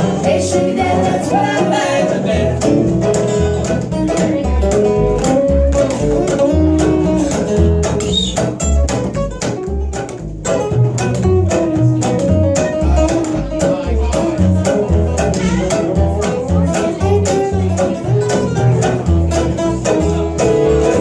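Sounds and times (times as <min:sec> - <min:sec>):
low bass notes: 0:00.0 - 0:21.0
strummed acoustic guitar: 0:00.0 - 0:21.0.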